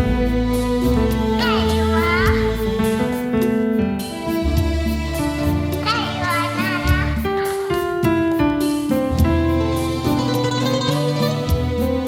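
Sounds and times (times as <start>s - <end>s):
instrumental keyboard and guitar music: 1.2s - 12.0s.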